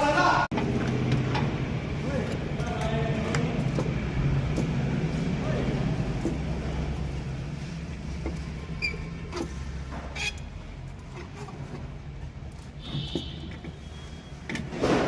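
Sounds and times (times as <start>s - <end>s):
car engine idling: 0.5s - 14.4s.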